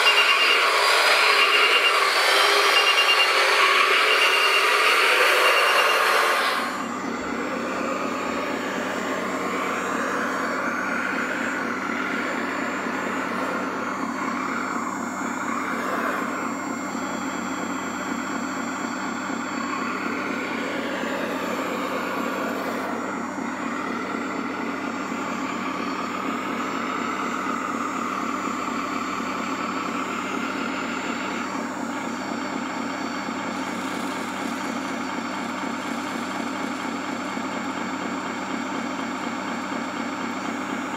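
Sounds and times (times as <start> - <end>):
toy loader motor humming and whining: 0.0 - 40.9.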